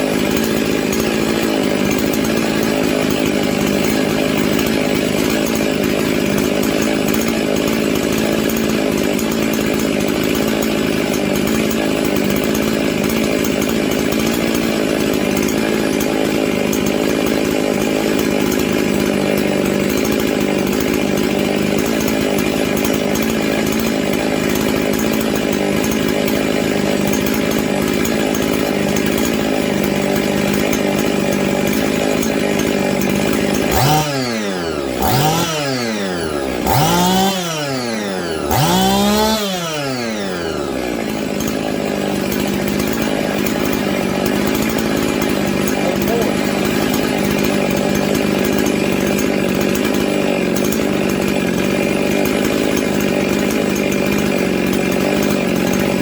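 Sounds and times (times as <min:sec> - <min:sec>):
chainsaw running steadily: 0:00.0 - 0:56.0.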